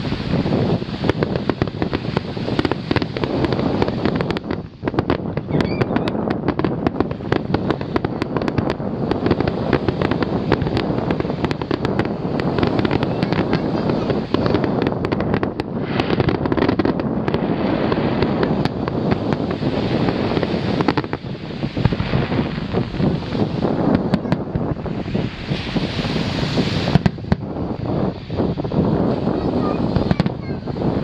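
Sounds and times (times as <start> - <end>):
fireworks popping and crackling: 0.0 - 31.0
fireworks rumble: 0.0 - 31.0.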